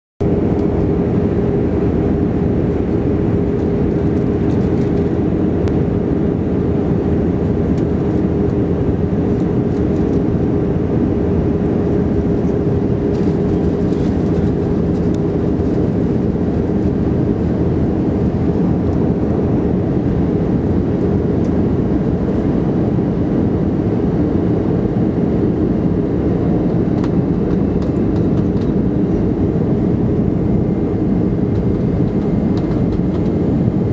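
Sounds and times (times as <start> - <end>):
constant hum: 0.2 - 33.9
jet engine and airflow noise: 0.2 - 33.9.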